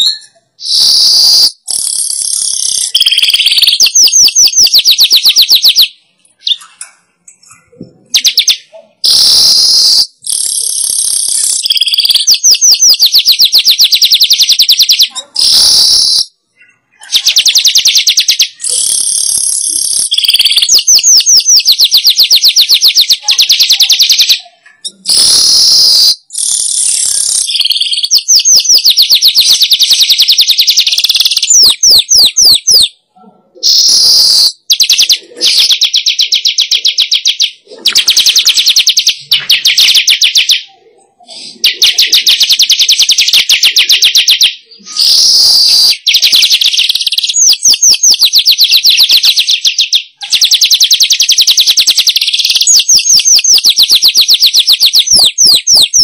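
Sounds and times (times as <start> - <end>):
bird buzzy chattering song: 0.0 - 33.0, 33.6 - 56.0
rapid ticking bird notes: 0.0 - 33.0, 33.7 - 40.8, 41.6 - 56.0.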